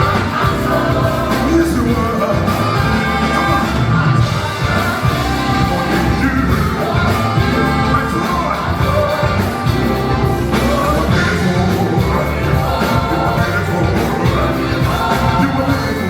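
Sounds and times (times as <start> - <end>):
live band playing worship music: 0.0 - 16.0.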